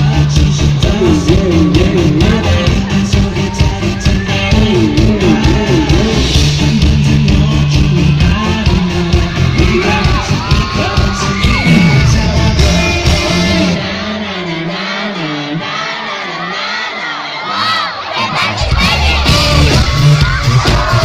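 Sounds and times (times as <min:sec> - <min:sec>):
fans yelling and whooping: 0:00.0 - 0:21.0
live band with singer: 0:00.0 - 0:21.0.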